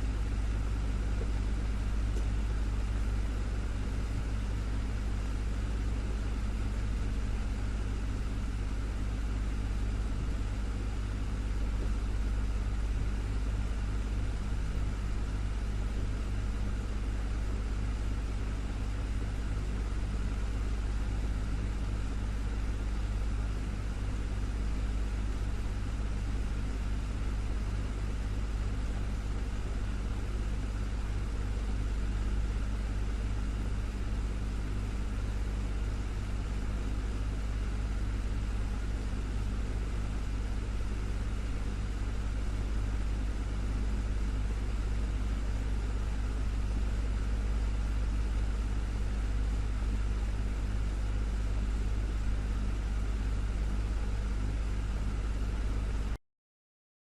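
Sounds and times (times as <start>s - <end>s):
desktop fan running: 0.0s - 56.2s.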